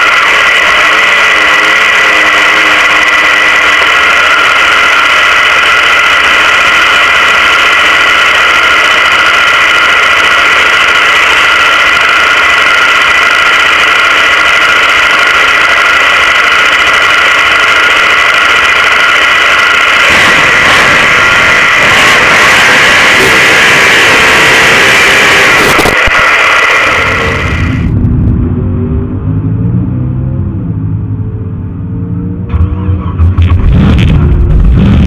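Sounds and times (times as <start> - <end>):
car engine idling loudly: 0.0 - 29.6, 30.5 - 35.0.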